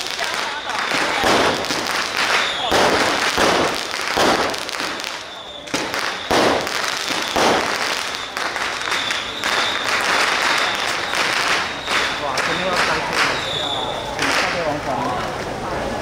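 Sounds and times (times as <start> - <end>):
crowd voices: 0.0 - 16.0
firecrackers crackling: 0.0 - 16.0.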